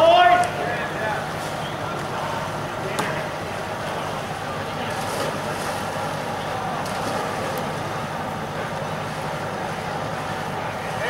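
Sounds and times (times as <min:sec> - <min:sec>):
distant indistinct voices: 0:00.0 - 0:11.0
pool water noise: 0:00.0 - 0:11.0.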